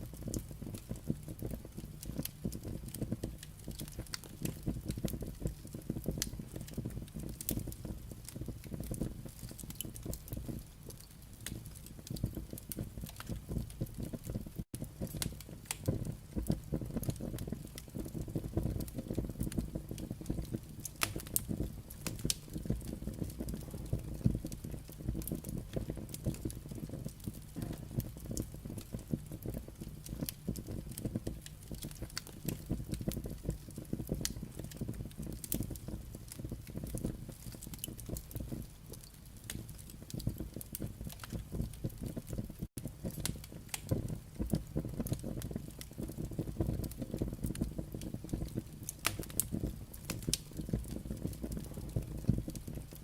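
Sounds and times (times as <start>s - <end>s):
firewood crackling and popping: 0.0s - 53.0s
low rush of fire: 0.0s - 53.0s.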